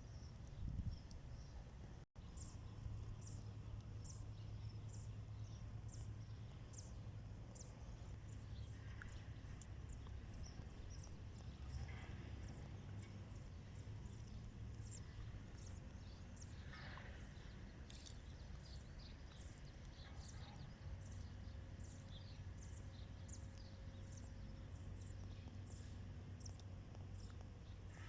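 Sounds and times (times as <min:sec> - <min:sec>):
low steady rumble: 0:00.0 - 0:28.0
small birds chirping: 0:00.0 - 0:28.0.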